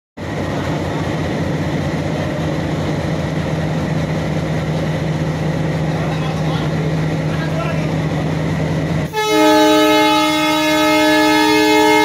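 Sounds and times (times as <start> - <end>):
diesel locomotive engine humming: 0.2 - 12.0.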